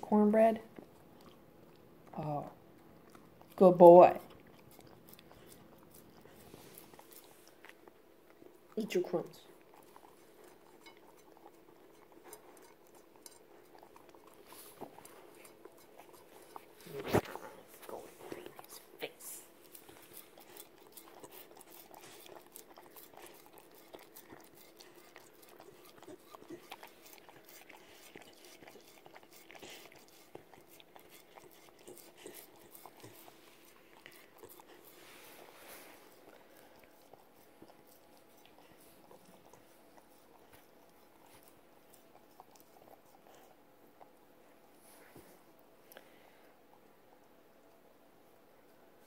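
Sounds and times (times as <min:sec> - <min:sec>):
dog licking plate: 0:02.8 - 0:44.2.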